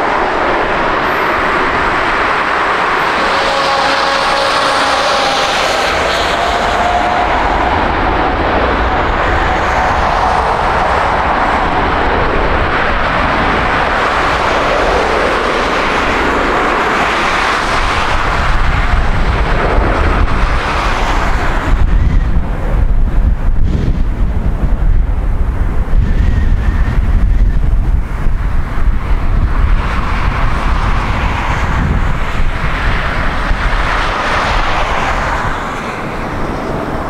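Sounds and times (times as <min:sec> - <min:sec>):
high fan tone: 0:00.0 - 0:37.0
jet blast rumble on microphone: 0:00.0 - 0:37.0
jet engines at high thrust: 0:00.0 - 0:37.0.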